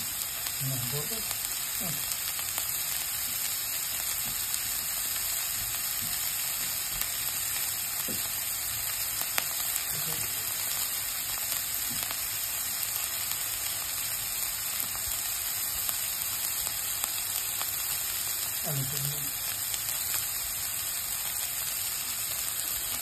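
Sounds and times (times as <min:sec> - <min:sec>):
onion and chillies sizzling in oil: 0:00.0 - 0:23.0.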